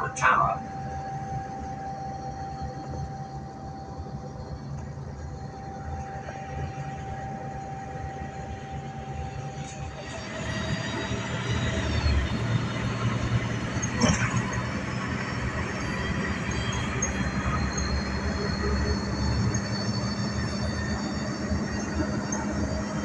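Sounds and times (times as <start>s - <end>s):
bus engine and road rumble: 0.0s - 23.0s
faint steady whine: 0.0s - 23.0s.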